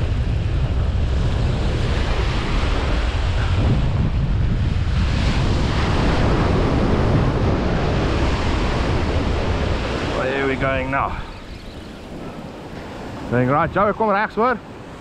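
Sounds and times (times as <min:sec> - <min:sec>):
waves breaking on beach: 0:00.0 - 0:15.0
wind buffeting microphone: 0:00.0 - 0:15.0.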